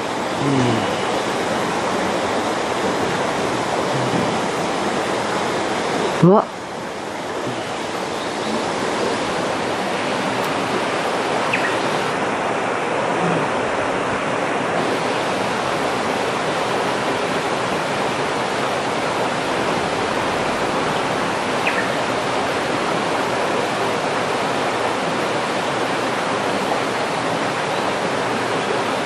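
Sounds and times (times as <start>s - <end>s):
rushing stream water: 0.0s - 29.0s.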